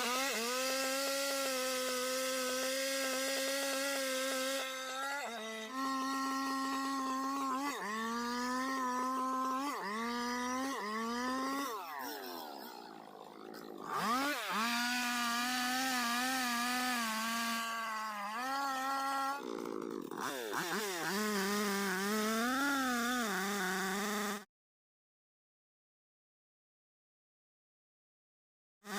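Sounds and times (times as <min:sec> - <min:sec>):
chainsaw cutting wood: 0:00.0 - 0:24.5.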